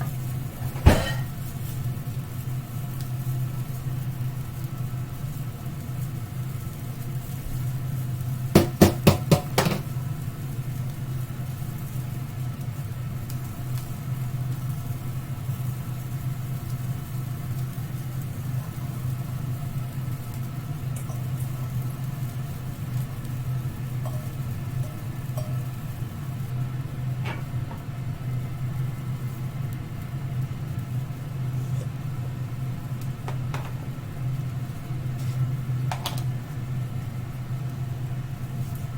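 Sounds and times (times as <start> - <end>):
kitchen appliance hum: 0.0 - 38.9.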